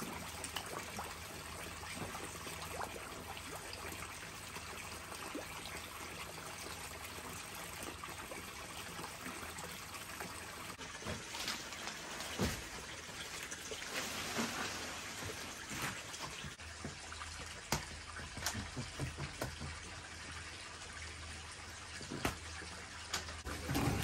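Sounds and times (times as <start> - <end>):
running water trickling: 0.0 - 24.0.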